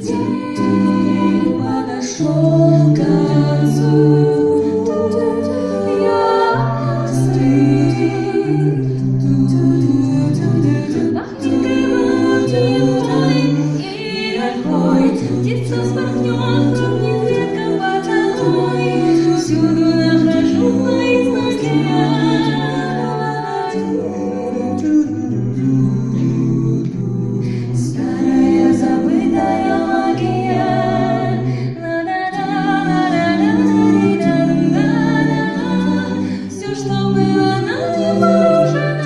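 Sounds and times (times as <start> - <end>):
vocal ensemble singing in harmony: 0.0 - 39.0.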